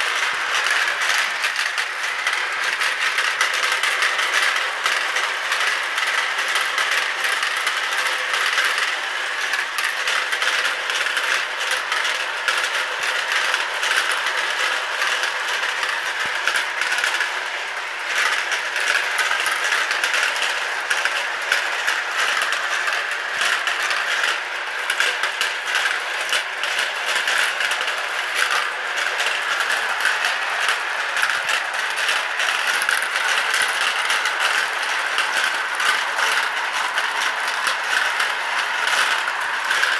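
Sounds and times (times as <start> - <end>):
marbles rattling in plastic funnels: 0.0 - 39.9.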